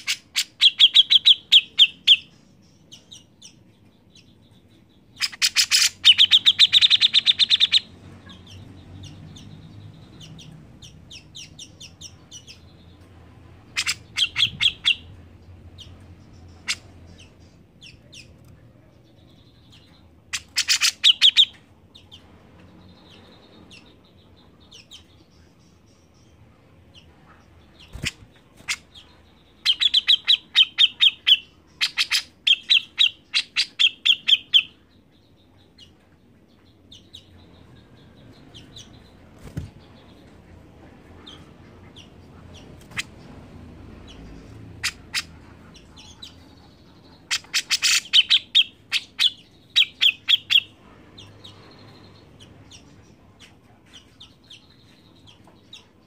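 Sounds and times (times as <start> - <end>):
bird rapid chattering song: 0.0 - 56.0
faint bird chirps: 0.0 - 56.0.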